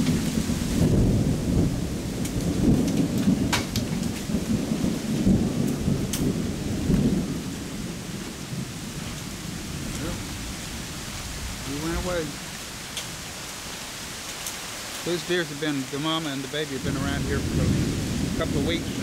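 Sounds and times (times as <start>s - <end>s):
thunder rumbling: 0.0s - 14.2s, 15.0s - 19.0s.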